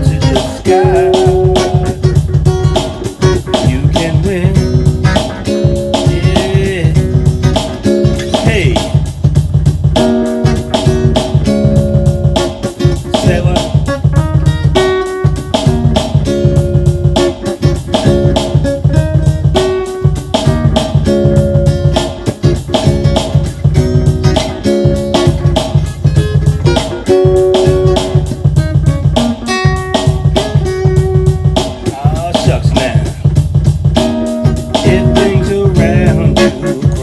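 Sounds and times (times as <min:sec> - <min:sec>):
bass line: 0:00.0 - 0:37.0
electric guitar vamping: 0:00.0 - 0:37.0
steady drum beat: 0:00.0 - 0:37.0.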